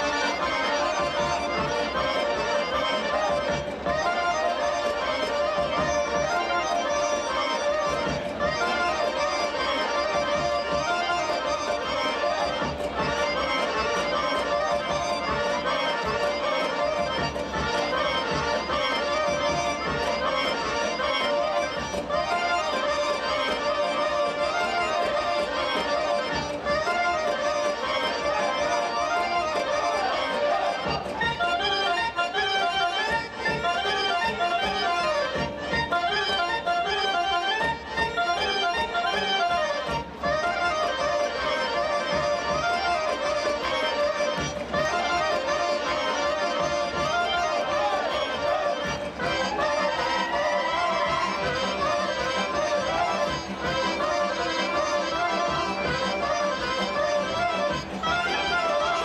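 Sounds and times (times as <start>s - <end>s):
accordion folk dance music: 0.0s - 59.0s.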